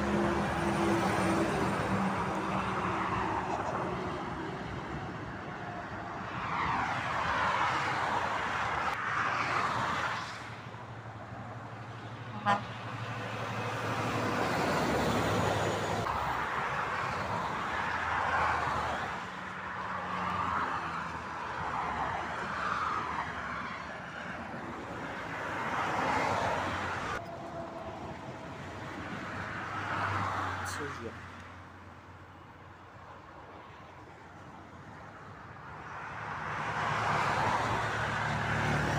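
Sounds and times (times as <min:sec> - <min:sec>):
vehicles passing: 0:00.0 - 0:38.9.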